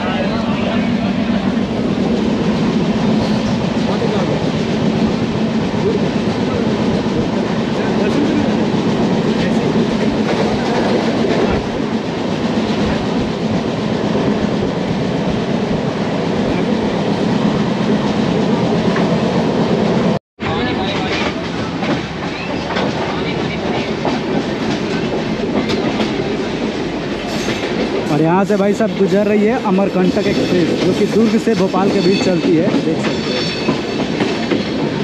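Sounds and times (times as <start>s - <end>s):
train rumbling on track: 0.0s - 35.0s.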